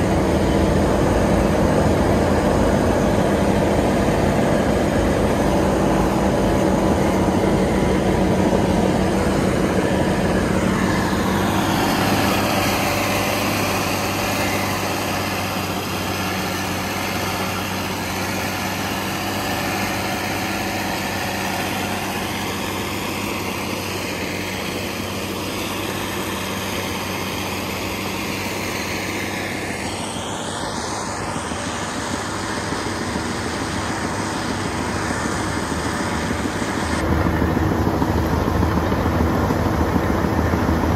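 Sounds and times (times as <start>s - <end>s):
high whine: 0.0s - 40.9s
tractor diesel engine under load: 0.0s - 40.9s.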